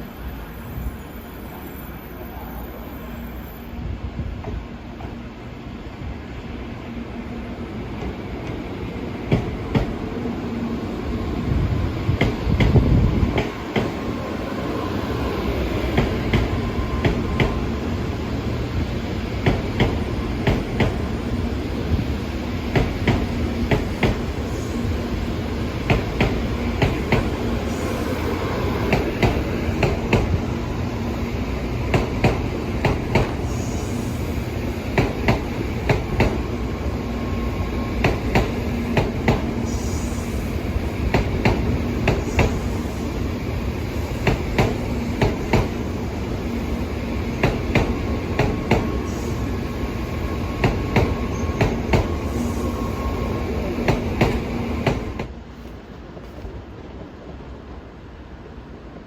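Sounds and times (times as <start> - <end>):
train rolling rumble: 0.0 - 59.0.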